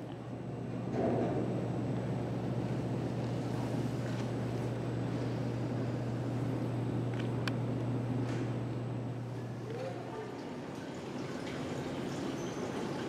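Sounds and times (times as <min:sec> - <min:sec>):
elevator humming and rushing: 0:00.0 - 0:13.0.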